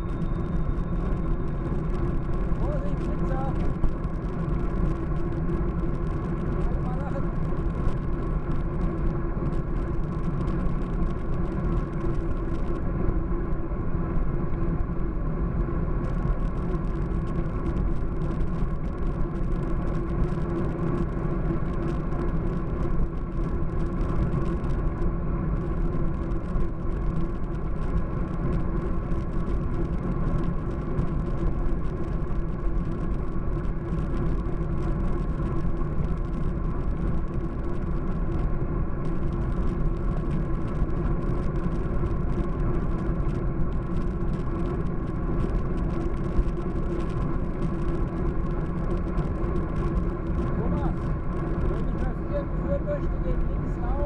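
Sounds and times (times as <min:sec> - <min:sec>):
bike tyres on asphalt rumble: 0:00.0 - 0:54.0
wind noise: 0:00.0 - 0:54.0.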